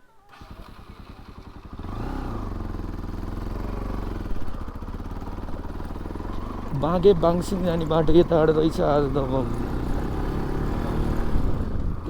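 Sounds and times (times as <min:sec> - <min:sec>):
motorcycle engine pulling away: 0:00.2 - 0:12.0.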